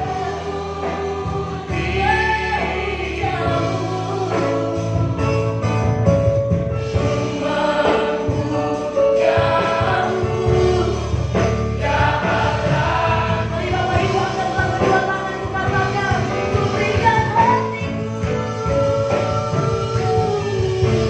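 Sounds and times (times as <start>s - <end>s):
group singing: 0.0s - 5.8s, 6.9s - 21.0s
instrumental accompaniment: 0.0s - 21.0s.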